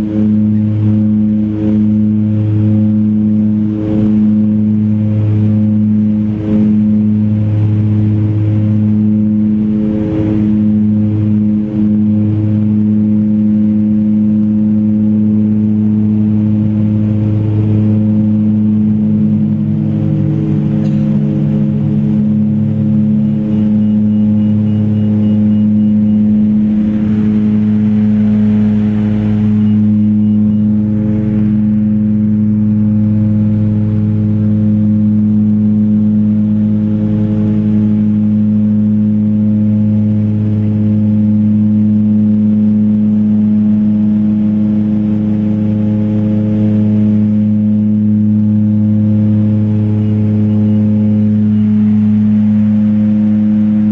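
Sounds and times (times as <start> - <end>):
propeller and engine drone: 0.0 - 53.9.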